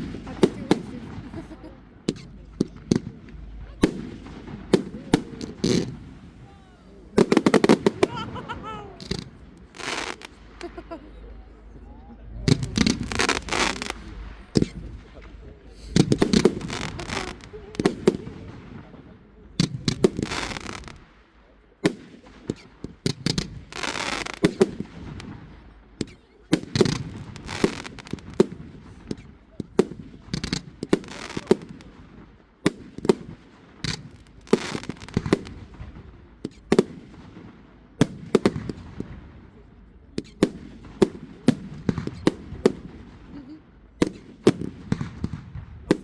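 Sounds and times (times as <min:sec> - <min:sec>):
fireworks bangs: 0:00.0 - 0:11.3, 0:12.4 - 0:46.0
fireworks crackling: 0:00.0 - 0:11.8, 0:12.4 - 0:46.0.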